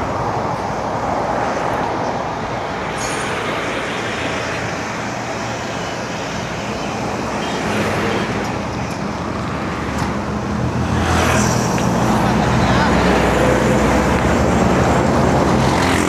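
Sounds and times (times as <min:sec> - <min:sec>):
passing motor vehicles: 0:00.0 - 0:16.0.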